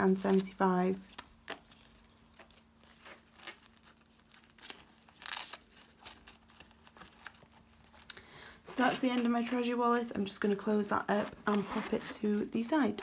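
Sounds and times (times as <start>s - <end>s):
banknotes rustling and crinkling: 0.0s - 13.0s.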